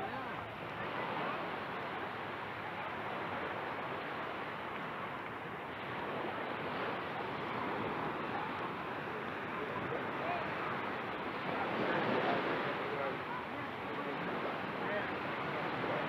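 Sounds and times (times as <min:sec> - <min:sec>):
faint distant voices: 0:00.0 - 0:16.0
small waves washing onto shore: 0:00.0 - 0:16.0.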